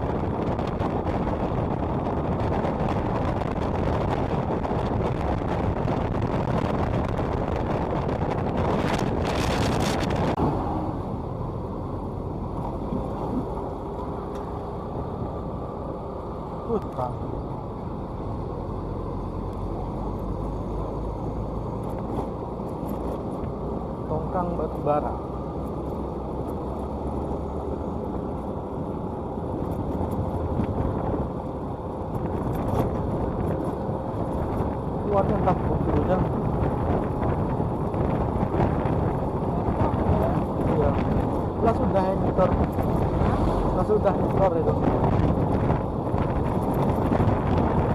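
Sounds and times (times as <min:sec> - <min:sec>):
motorcycle engine hum: 0:00.0 - 0:47.9
wind rushing over microphone: 0:00.0 - 0:47.9.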